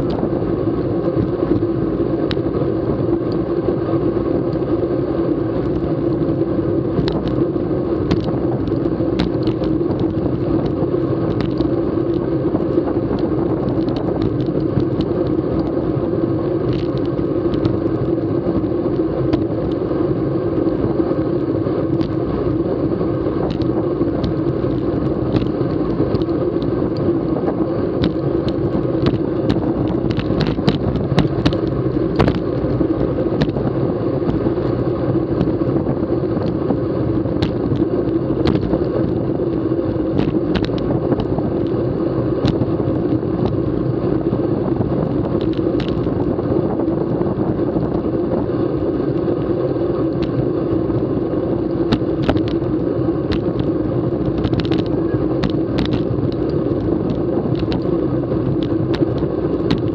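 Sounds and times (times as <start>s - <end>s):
bicycle tyres road noise: 0.0s - 59.9s
sharp ticks from road bumps: 0.0s - 59.9s
wind on microphone: 0.0s - 59.9s.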